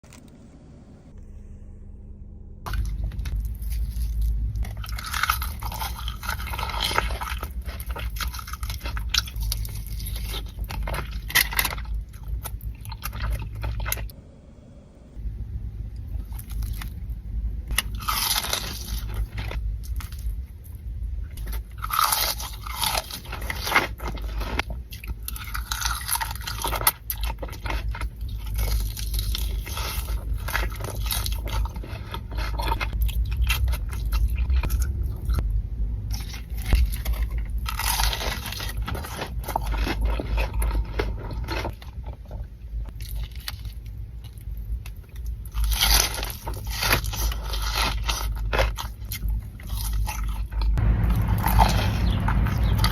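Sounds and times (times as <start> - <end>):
crunching fried chicken: 2.7 - 14.2, 16.0 - 52.9
person chewing: 2.7 - 14.2, 16.1 - 52.9.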